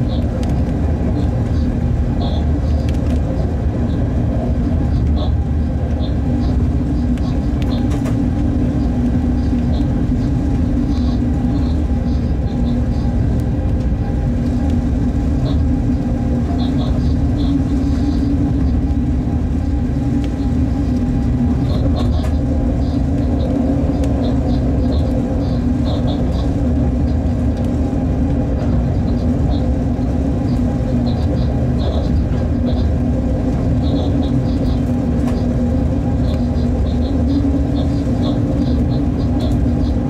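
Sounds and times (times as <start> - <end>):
locomotive rumbling: 0.0 - 40.0.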